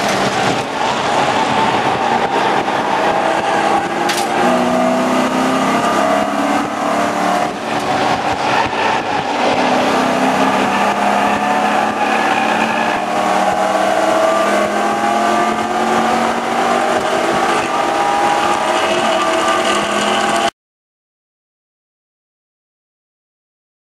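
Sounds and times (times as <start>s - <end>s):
race car engine accelerating: 0.0s - 20.5s.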